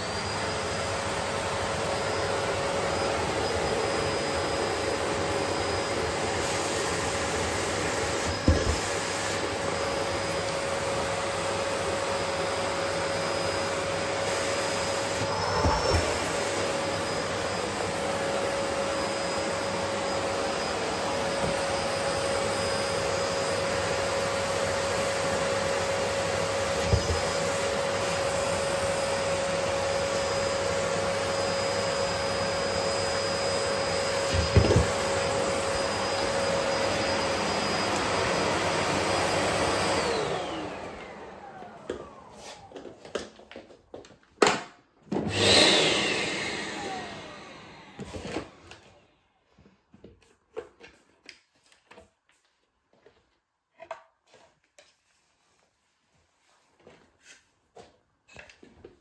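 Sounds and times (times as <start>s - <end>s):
vacuum cleaner running: 0.0s - 49.7s.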